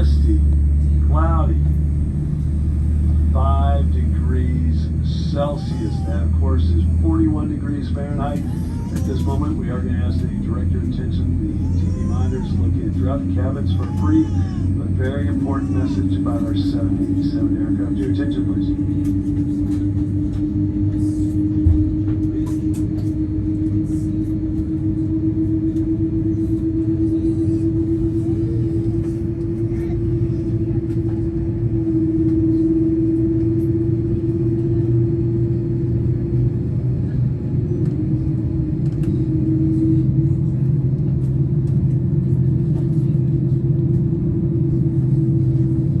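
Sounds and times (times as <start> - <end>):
aircraft cabin low rumble: 0.0 - 46.0.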